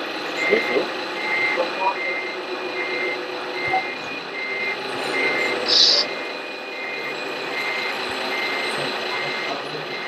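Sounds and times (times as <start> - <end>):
electronic reversing beeper: 0.4 - 10.0.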